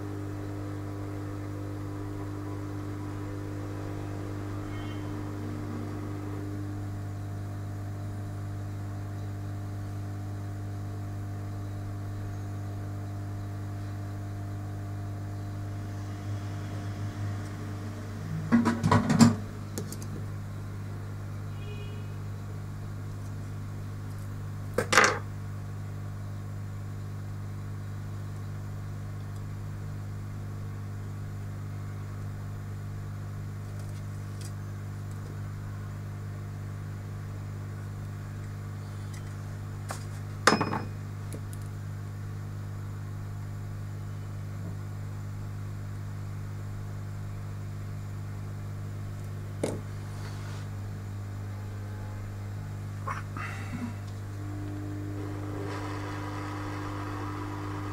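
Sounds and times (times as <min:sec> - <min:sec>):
low electrical hum: 0:00.0 - 0:57.9.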